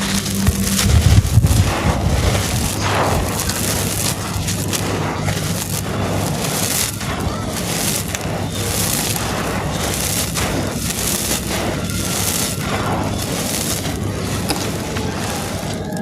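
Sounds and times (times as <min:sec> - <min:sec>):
cement chunks crumbling on floor: 0:00.0 - 0:16.0.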